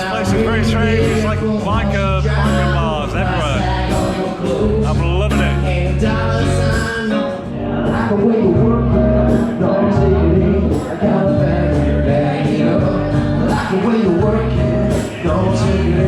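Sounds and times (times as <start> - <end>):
song with singing and beat: 0.0 - 16.0.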